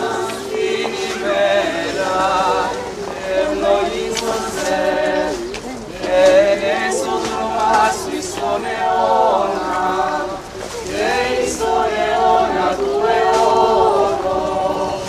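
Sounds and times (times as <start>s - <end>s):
group singing a hymn unaccompanied: 0.0s - 15.0s.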